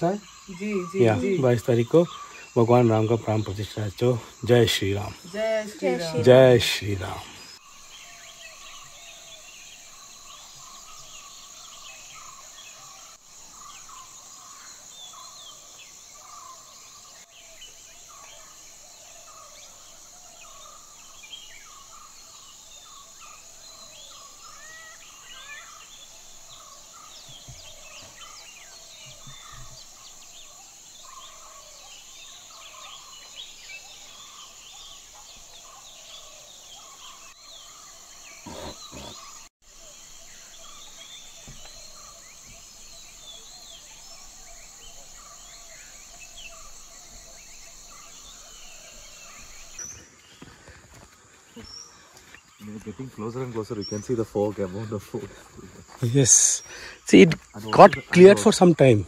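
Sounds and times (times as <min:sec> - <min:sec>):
forest birds calling: 0:00.0 - 0:59.0
high insect drone: 0:00.0 - 0:59.0.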